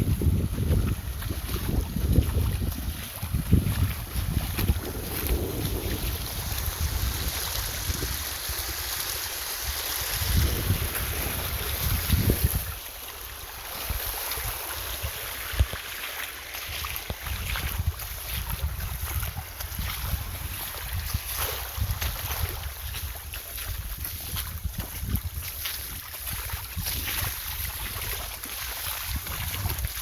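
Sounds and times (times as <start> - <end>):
wind buffeting microphone: 0.0 - 15.8, 16.6 - 30.0
stream water running: 0.0 - 30.0.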